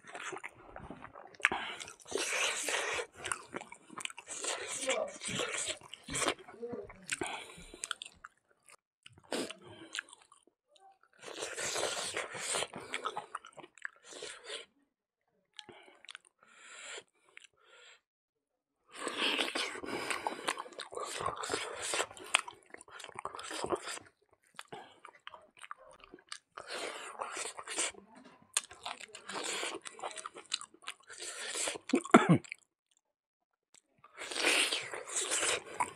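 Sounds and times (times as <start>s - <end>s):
person chewing food: 0.0s - 10.5s, 11.2s - 14.7s, 15.6s - 18.0s, 18.9s - 32.6s, 34.1s - 35.9s.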